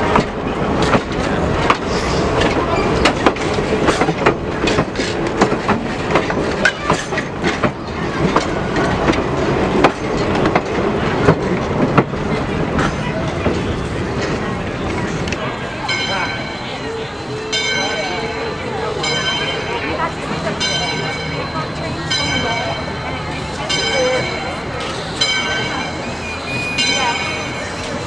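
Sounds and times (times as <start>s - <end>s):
train rumble: 0.0s - 28.0s
train wheels clacking over joints: 0.0s - 28.0s.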